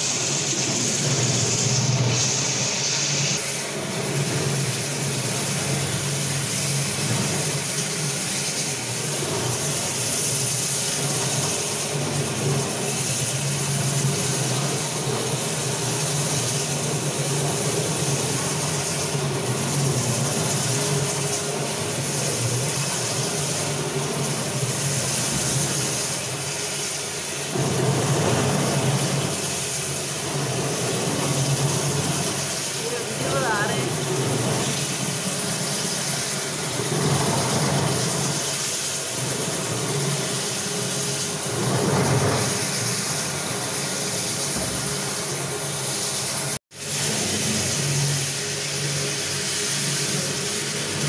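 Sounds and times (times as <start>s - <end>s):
floor polishing machine running: 0.0s - 51.0s.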